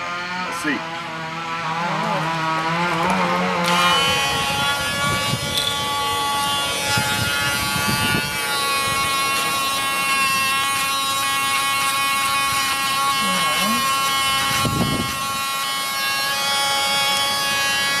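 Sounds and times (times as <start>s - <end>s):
nail grinder motor whining: 0.0s - 18.0s.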